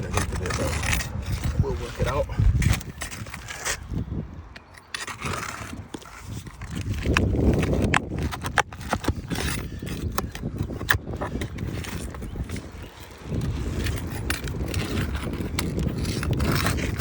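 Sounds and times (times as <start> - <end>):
pry tool scraping under shingles: 0.0 - 17.0.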